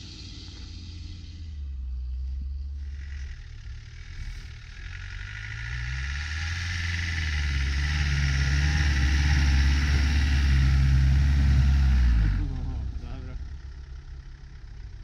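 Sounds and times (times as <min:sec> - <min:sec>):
hiss: 0:00.0 - 0:12.3
vehicle engine running: 0:00.0 - 0:15.0.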